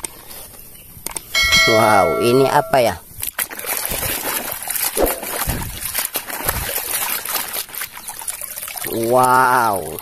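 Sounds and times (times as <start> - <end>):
muddy water sloshing: 1.4 - 10.0.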